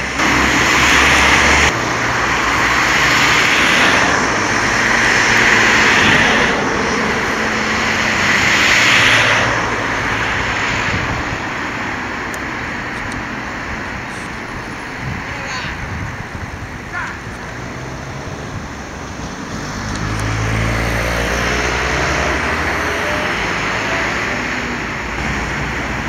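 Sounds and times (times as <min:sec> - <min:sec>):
cars passing by: 0:00.0 - 0:26.0.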